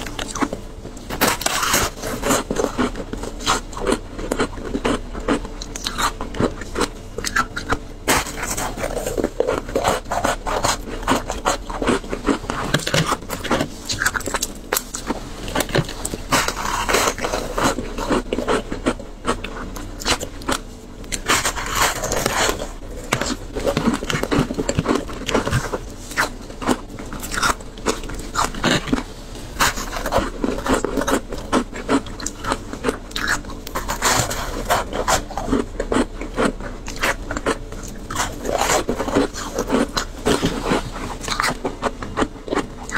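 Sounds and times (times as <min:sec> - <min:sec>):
crunching shaved ice: 0:00.0 - 0:42.9.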